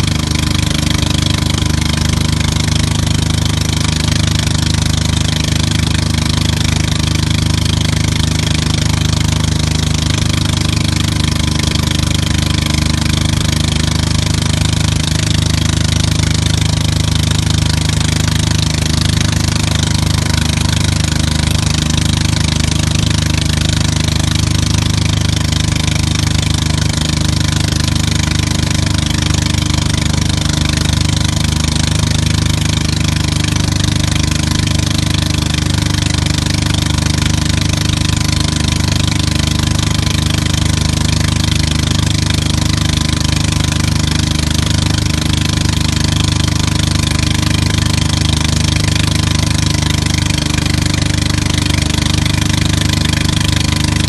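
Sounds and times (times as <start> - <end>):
boat engine running: 0.0 - 54.0
rushing wake water: 0.0 - 54.0.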